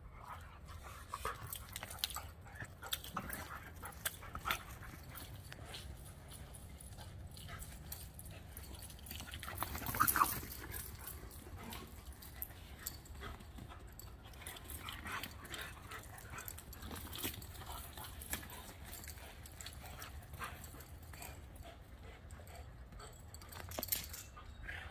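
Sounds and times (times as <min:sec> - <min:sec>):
dogs scuffling and huffing: 0:00.1 - 0:24.9.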